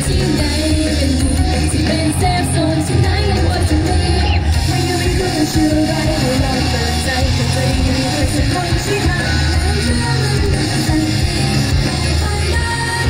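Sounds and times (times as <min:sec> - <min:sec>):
amplified pop-rock song with singing: 0:00.0 - 0:13.0.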